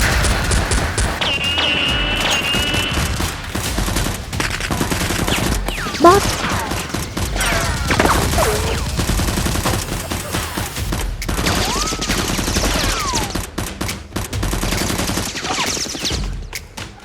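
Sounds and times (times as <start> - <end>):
rapid automatic gunfire: 0.0 - 16.2.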